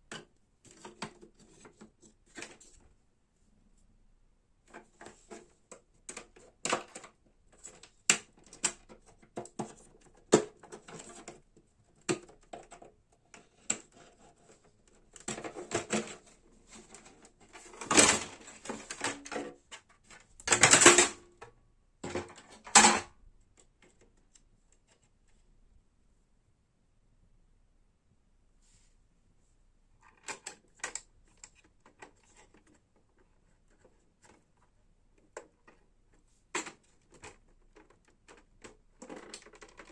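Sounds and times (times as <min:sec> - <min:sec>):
plastic parts clicking and knocking: 0:00.0 - 0:02.9, 0:04.6 - 0:25.1, 0:30.0 - 0:39.9
plastic clattering and scraping: 0:00.1 - 0:03.0, 0:04.6 - 0:25.4, 0:30.0 - 0:39.9.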